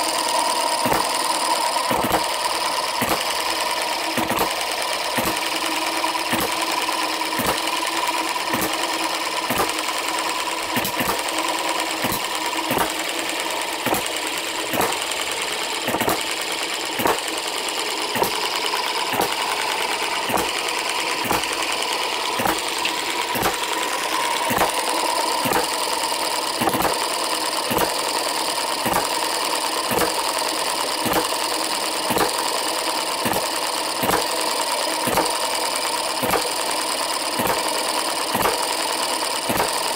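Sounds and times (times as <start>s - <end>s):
model engine clacking: 0.0s - 39.9s.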